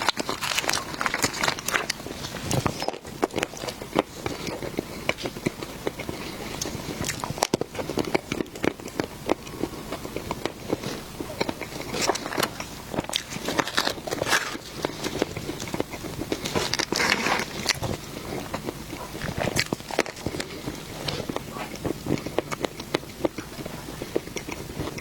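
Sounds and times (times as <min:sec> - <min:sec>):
crisp chewing: 0:00.0 - 0:25.0.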